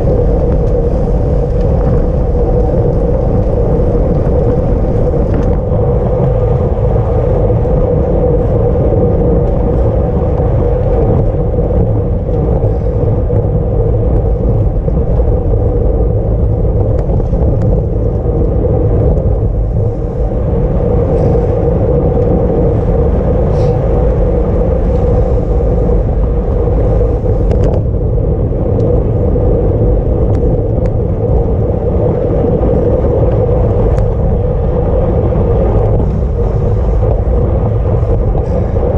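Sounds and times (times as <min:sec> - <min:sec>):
wind rumbling over microphone: 0:00.0 - 0:38.9.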